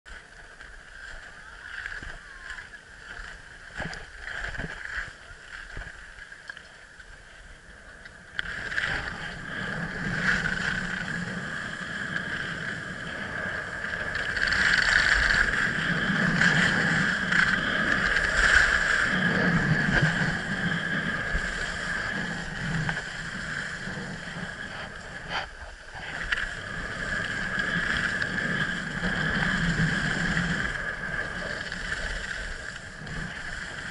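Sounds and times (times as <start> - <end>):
skis sliding over snow: 0.1 - 33.9.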